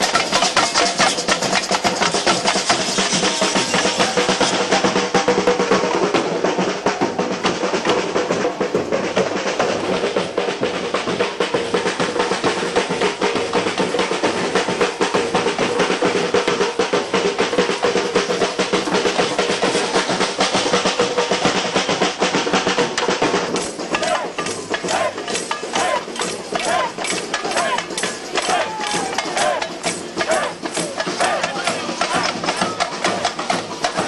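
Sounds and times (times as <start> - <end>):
fast snare and bass drumming: 0.0 - 34.0.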